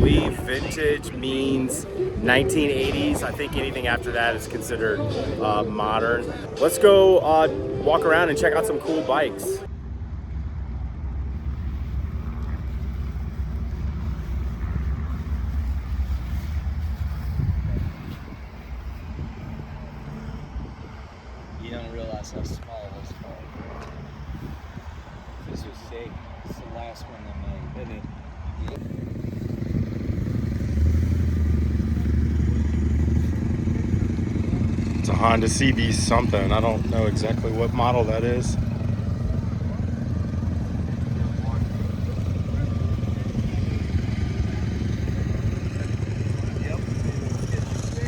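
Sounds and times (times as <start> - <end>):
steady low rumble: 0.0 - 8.8, 9.6 - 26.9, 28.7 - 48.0.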